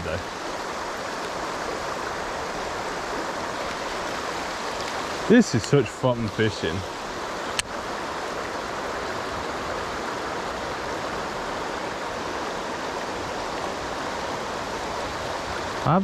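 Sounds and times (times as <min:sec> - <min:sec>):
river water rushing over shoals: 0:00.0 - 0:16.0.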